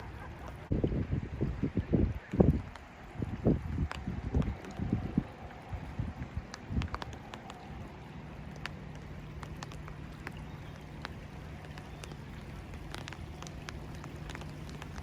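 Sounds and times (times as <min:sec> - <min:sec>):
rain hiss: 0:00.0 - 0:15.0
raindrops ticking on a surface: 0:00.0 - 0:15.0.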